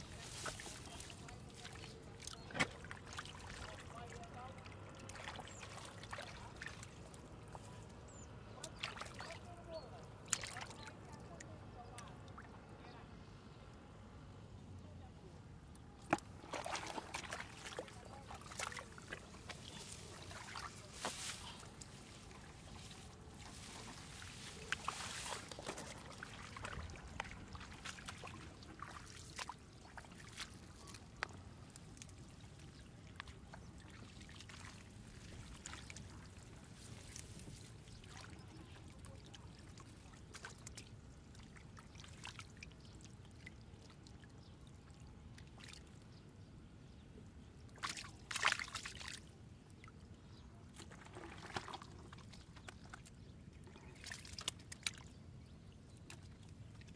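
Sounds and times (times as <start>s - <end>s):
shallow water splashing and trickling: 0.0s - 12.8s, 15.8s - 56.9s.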